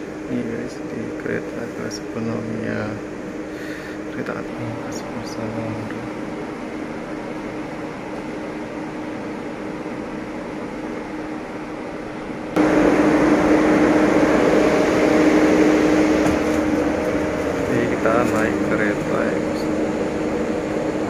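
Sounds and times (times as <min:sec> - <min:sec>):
steady tone: 0:00.0 - 0:21.0
train carriage mechanical hum: 0:00.0 - 0:21.0.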